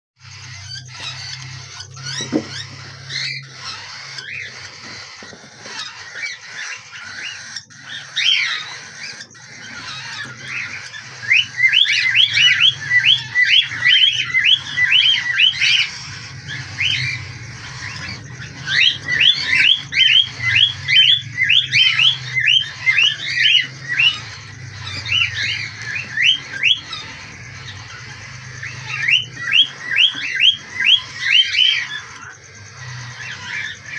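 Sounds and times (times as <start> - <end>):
lovebirds squawking chirps: 0.2 - 33.9.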